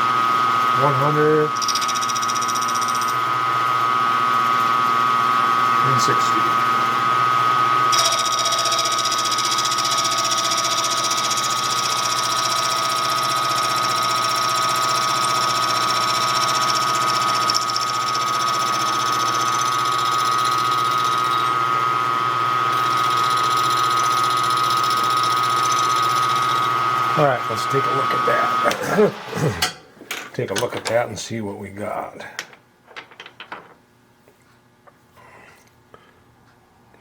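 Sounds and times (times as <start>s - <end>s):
milling machine whine: 0.1s - 29.8s.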